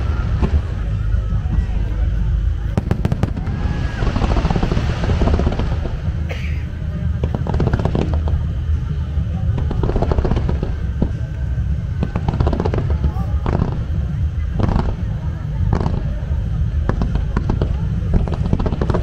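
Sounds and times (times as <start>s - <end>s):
deep continuous rumble: 0.0s - 19.0s
fireworks bangs and crackles: 0.0s - 19.0s.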